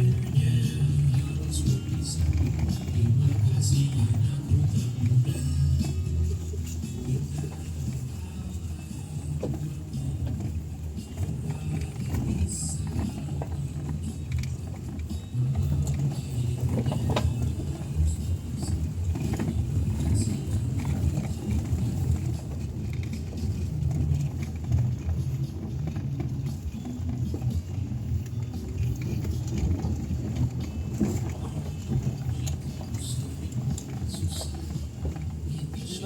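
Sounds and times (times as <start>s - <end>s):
car interior engine and road rumble: 0.0s - 36.0s.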